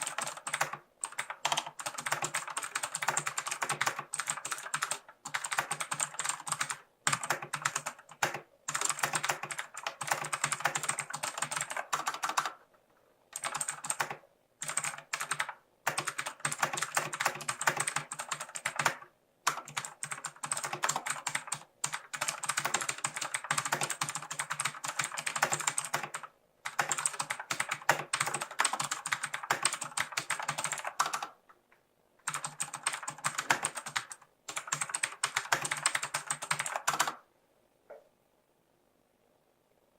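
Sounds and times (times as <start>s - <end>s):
fast typing on mechanical keyboard: 0.0s - 12.6s, 13.3s - 31.4s, 32.2s - 37.2s.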